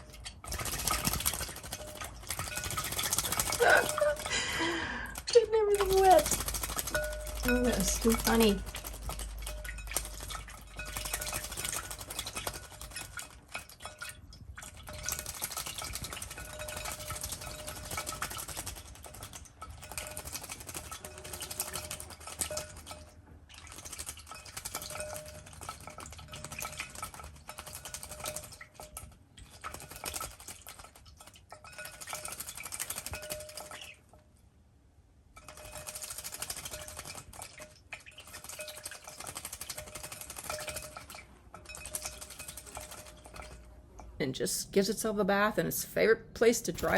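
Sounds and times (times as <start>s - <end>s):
bird splashing in water: 0.0s - 34.2s, 35.4s - 44.1s
water clinking against ceramic dish: 0.0s - 34.3s, 35.3s - 44.2s.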